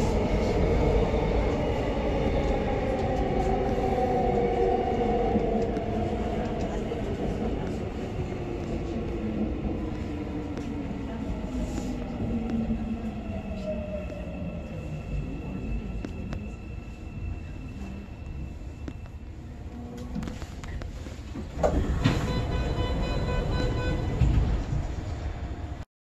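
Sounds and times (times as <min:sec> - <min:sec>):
subway train braking: 0:00.0 - 0:25.8.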